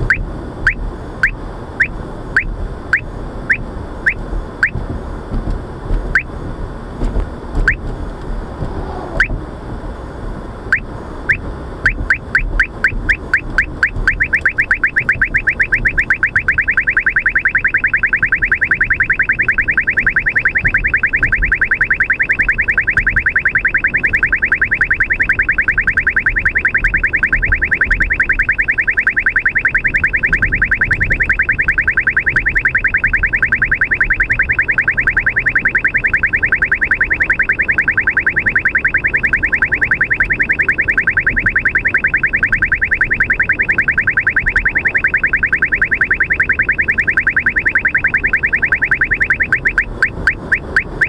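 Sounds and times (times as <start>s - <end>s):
low road noise: 0.0s - 51.0s
high chirping beeps: 0.1s - 4.8s, 10.7s - 51.0s.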